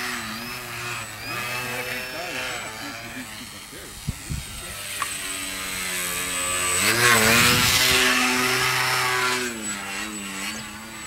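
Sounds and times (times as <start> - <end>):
model plane motor drone: 0.0 - 11.0.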